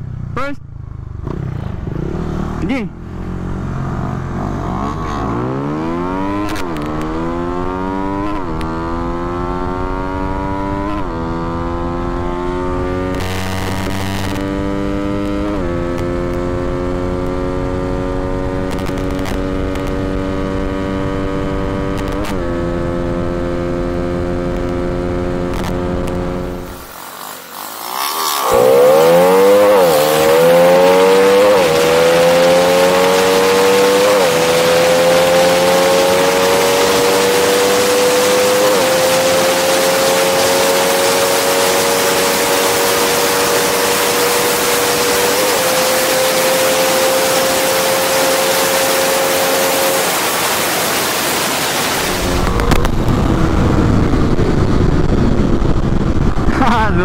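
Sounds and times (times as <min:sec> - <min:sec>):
motorcycle engine accelerating: 0:00.0 - 0:57.0
wind rushing over microphone: 0:03.4 - 0:57.0.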